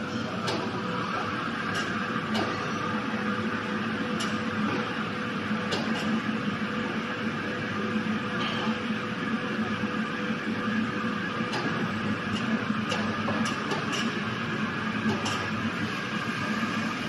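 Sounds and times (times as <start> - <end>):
drying blower hum and air rush: 0.0 - 17.0.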